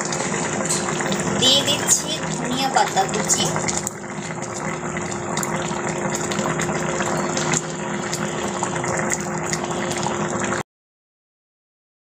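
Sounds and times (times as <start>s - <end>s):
curry bubbling in a pot: 0.0s - 10.6s.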